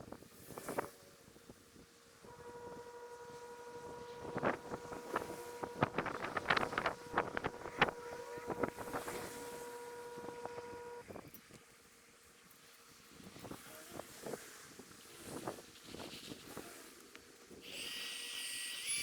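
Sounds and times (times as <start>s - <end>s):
steady humming tone: 0.1s - 15.4s.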